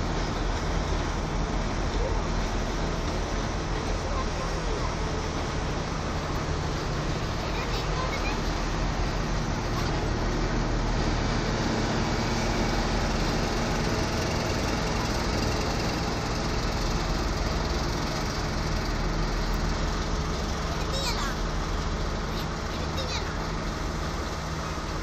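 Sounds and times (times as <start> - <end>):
diesel locomotive engine drone: 0.0 - 25.0
rumble of moving train: 0.0 - 25.0.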